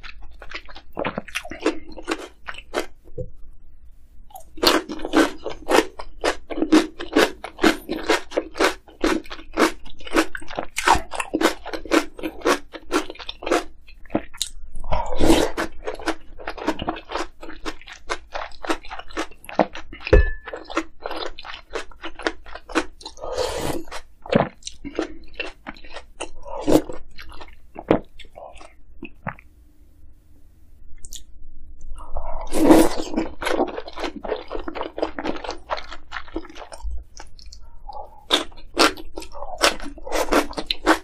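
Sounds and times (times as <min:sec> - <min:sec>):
crunchy chewing: 0:00.0 - 0:02.9, 0:04.3 - 0:29.4, 0:32.0 - 0:41.0.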